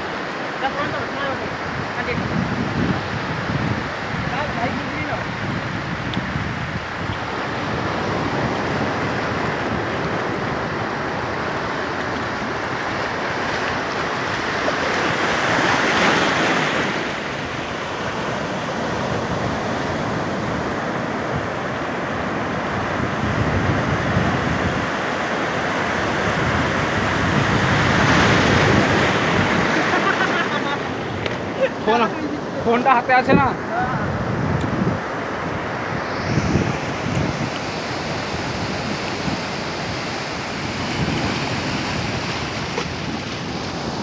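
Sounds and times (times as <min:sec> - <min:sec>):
sea waves breaking on beach: 0:00.0 - 0:44.0.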